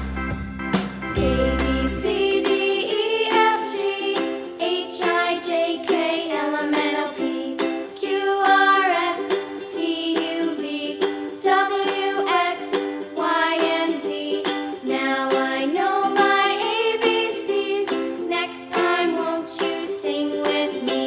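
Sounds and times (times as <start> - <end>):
plucked ukulele: 0.0 - 21.0
upbeat children's music: 0.0 - 21.0
person singing melody: 1.2 - 21.0.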